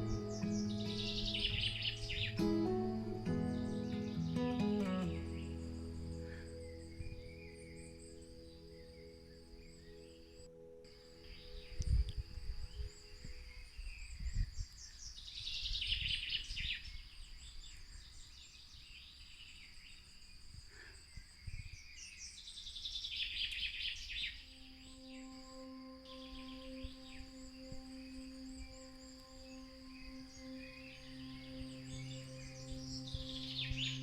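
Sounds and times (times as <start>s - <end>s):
soft sustained music tones: 0.0s - 20.0s, 23.6s - 34.0s
songbirds chirping and trilling: 0.0s - 34.0s.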